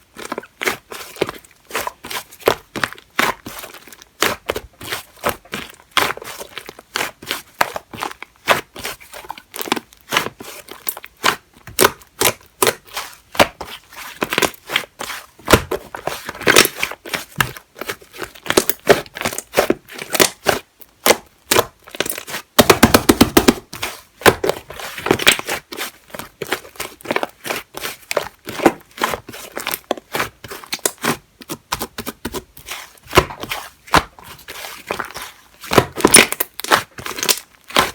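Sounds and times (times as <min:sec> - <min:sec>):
slime squishing with sticky pops: 0:00.1 - 0:37.9.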